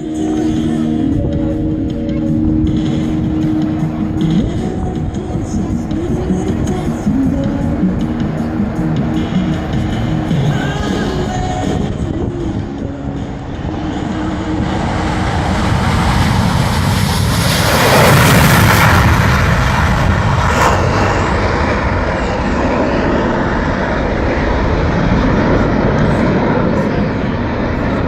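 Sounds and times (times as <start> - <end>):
fighter jet roar taking off: 0.0 - 28.0.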